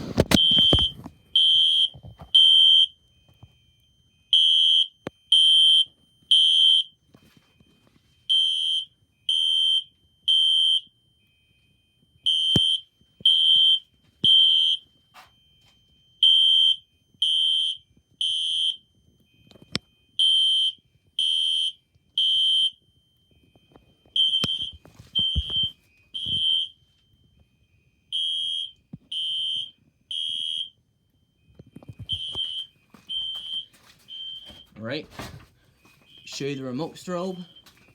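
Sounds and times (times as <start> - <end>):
fire alarm high-pitched beeps: 0.0 - 37.9.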